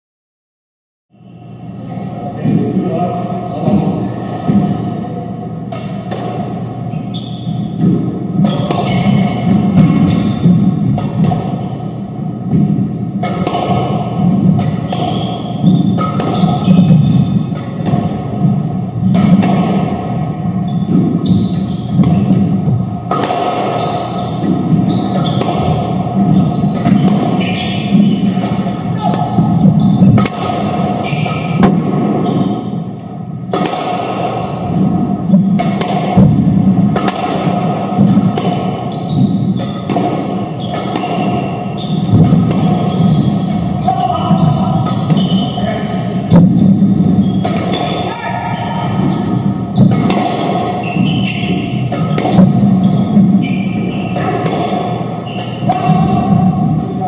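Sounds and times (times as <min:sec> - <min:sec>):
squash ball thuds: 0:07.6 - 0:45.5, 0:46.2 - 0:48.1, 0:48.7 - 0:57.0.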